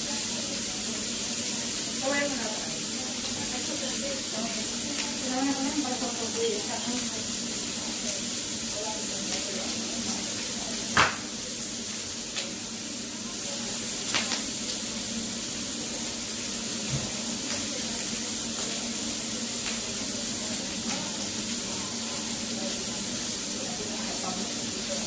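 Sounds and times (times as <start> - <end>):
meat sizzling on a grill: 0.0 - 25.0.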